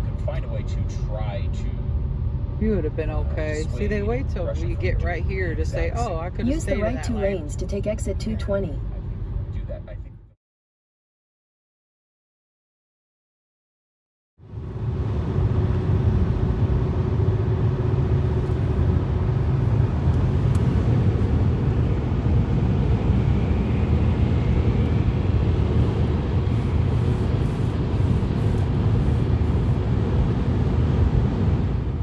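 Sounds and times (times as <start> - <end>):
car interior road rumble: 0.0 - 10.2, 15.0 - 32.0.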